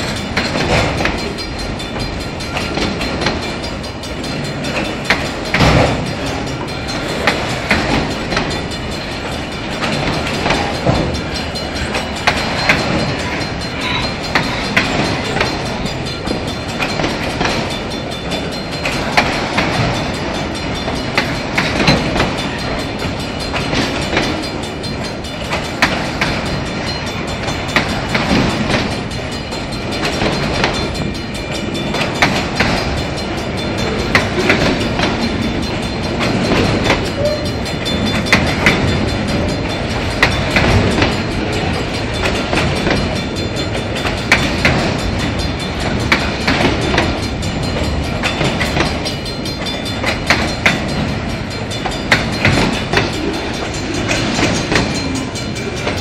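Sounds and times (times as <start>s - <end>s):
freight wheels rumbling on rails: 0.0s - 56.0s
sharp clicks and clacks: 0.0s - 56.0s.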